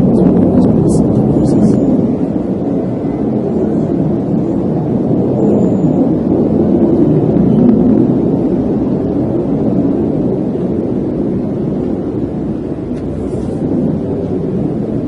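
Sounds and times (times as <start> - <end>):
low droning rumble in the sky: 0.0 - 15.0.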